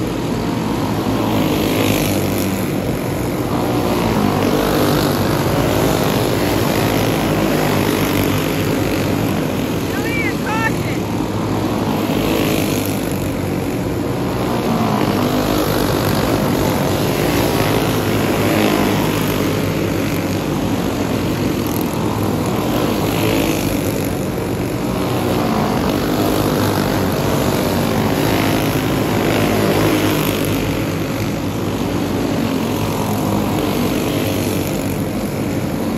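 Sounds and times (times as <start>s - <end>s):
racing kart engines: 0.0s - 35.9s.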